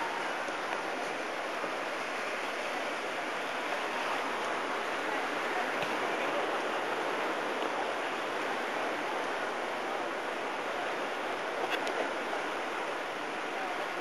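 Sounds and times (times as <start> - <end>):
ocean surf on rocky shore: 0.0 - 14.0.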